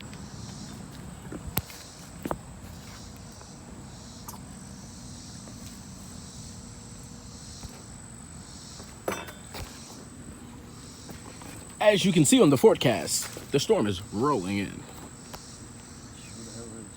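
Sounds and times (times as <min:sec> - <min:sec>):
insects chirring: 0:00.0 - 0:16.9.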